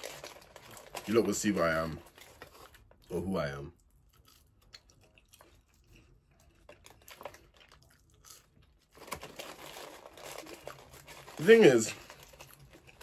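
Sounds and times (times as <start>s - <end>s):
chewing food: 1.9s - 11.3s, 11.9s - 13.0s.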